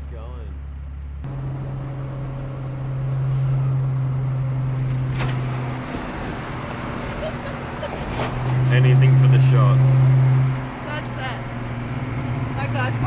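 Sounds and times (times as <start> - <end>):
road and wind noise: 0.0 - 13.0
vehicle engine drone: 0.0 - 13.0.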